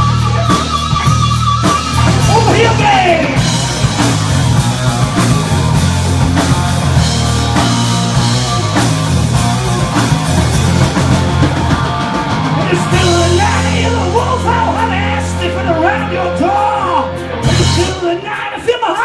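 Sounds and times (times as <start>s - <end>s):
bass guitar: 0.0s - 19.0s
distorted electric guitars: 0.0s - 19.0s
drum kit: 0.0s - 19.0s.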